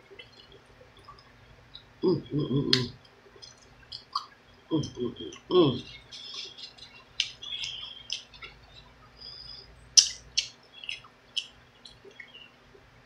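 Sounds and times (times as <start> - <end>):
chewing with wet mouth clicks: 0.2 - 12.5.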